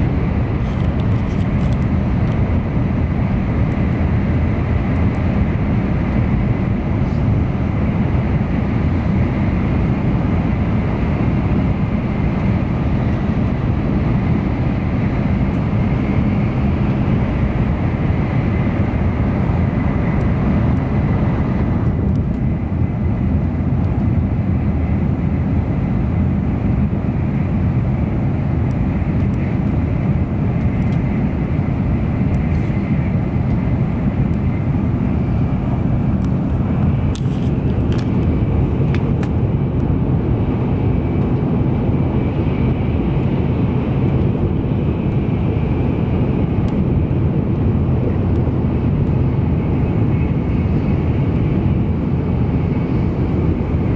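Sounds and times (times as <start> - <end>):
train cabin low rumble: 0.0 - 53.9.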